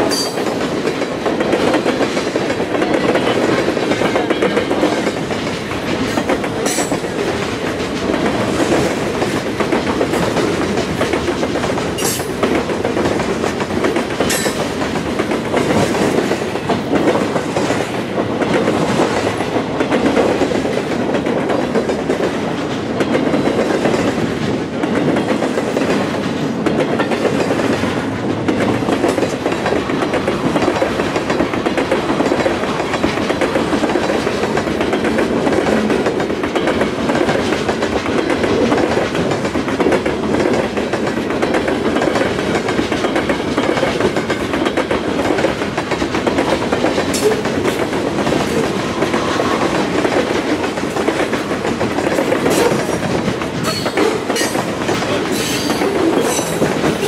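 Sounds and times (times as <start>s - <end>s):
freight train cars rolling: 0.0s - 57.0s
wheels clicking over rail joints: 0.0s - 57.0s.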